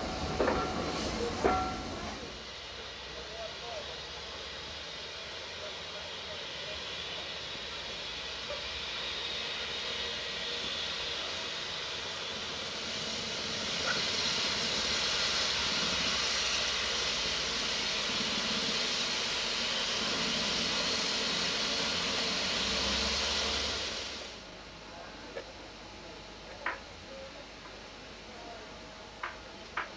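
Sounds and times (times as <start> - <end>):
steam hissing from locomotive: 0.0 - 29.9.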